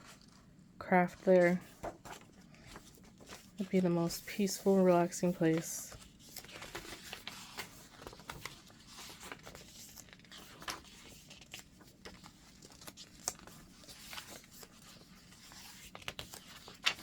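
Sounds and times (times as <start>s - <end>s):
paper pages rustling: 0.0s - 17.0s.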